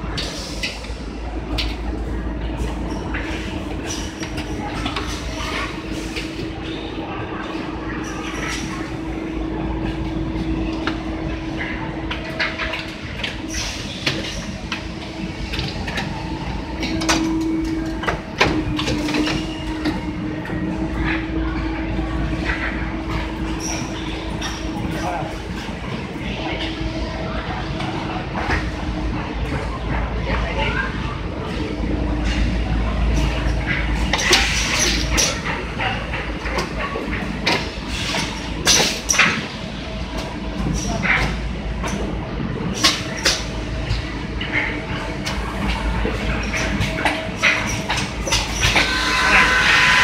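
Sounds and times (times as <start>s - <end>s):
assembly-line machinery humming: 0.0s - 50.0s
machinery clacks and knocks: 0.0s - 50.0s.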